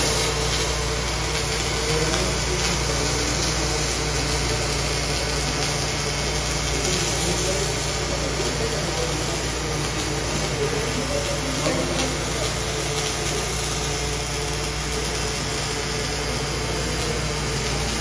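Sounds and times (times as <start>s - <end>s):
welding arc hiss and buzz: 0.0s - 18.0s.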